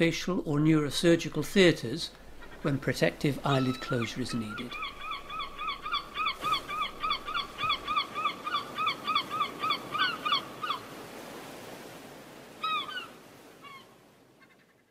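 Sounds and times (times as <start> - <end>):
outdoor background hiss: 0.0 - 14.9.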